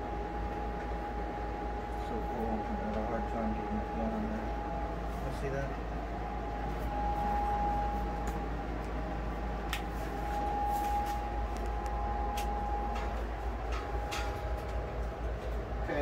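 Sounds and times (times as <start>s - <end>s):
low machine hum: 0.0s - 16.0s
thin high whine: 0.0s - 16.0s.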